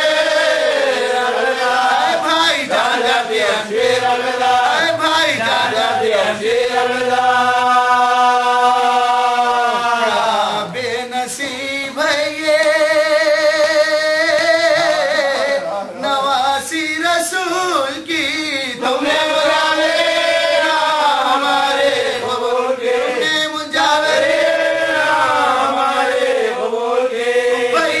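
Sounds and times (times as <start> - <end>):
man chanting a lament: 0.0 - 28.0.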